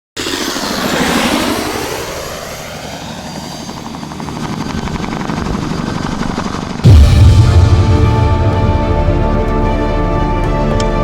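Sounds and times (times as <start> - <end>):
helicopter engine: 0.1 - 11.0
helicopter rotor-blade chop: 0.2 - 11.0.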